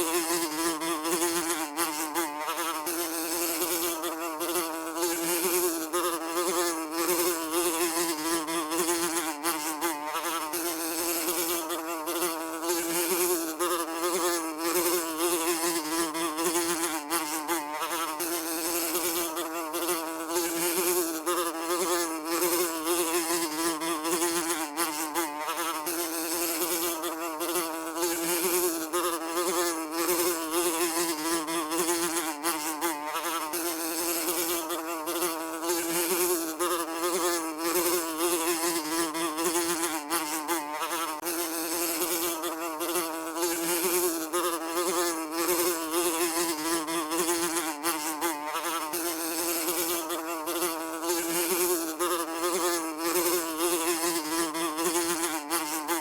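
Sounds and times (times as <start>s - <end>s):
fly buzzing: 0.0s - 56.0s.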